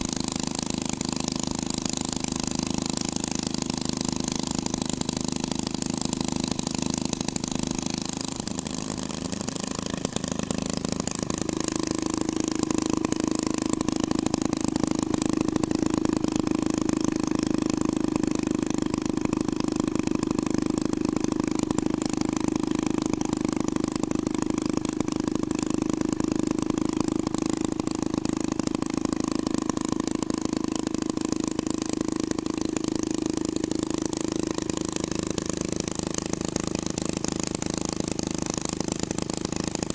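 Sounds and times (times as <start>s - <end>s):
hot rod engine running: 0.0s - 39.9s.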